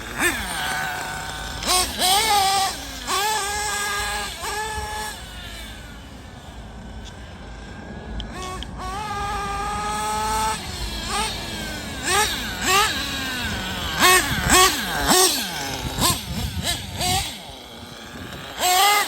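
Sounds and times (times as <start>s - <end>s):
nitro engine revving: 0.0s - 19.0s.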